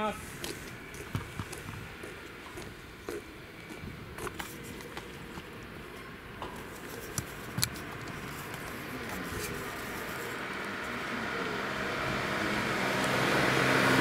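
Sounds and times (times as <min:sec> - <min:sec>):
van engine approaching: 0:00.0 - 0:14.0.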